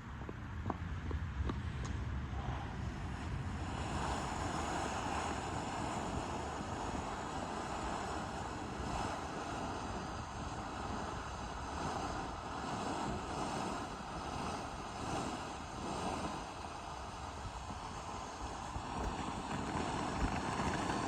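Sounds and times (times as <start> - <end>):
firework fountain hissing: 2.8 - 21.0.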